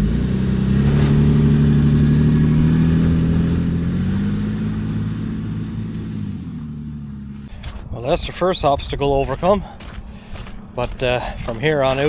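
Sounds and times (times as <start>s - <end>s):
off-road vehicle engine under load: 0.0s - 8.6s, 9.2s - 12.0s.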